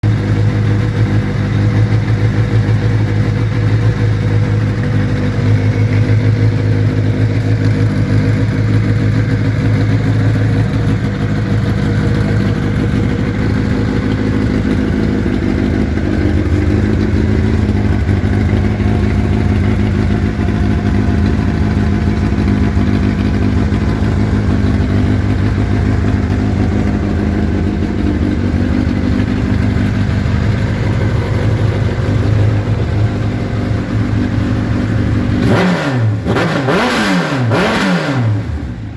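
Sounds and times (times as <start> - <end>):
engine idling with deep exhaust rumble: 0.0 - 36.8.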